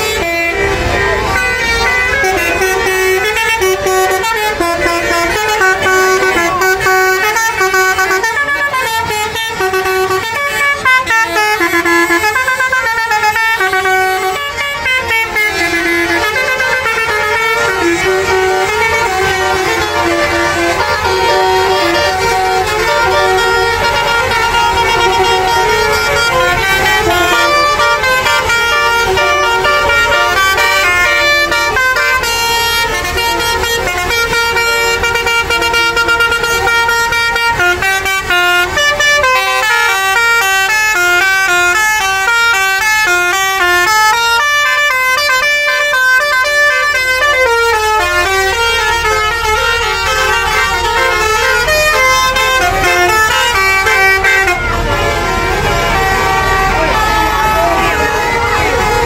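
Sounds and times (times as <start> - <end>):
musical air horns playing tunes: 0.0 - 59.0.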